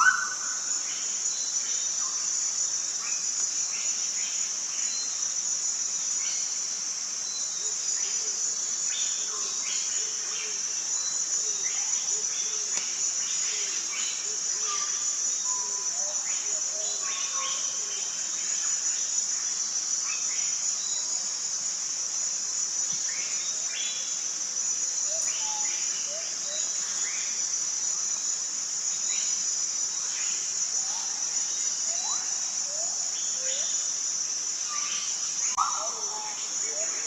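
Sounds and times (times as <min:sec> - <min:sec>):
forest insect chorus drone: 0:00.0 - 0:37.0.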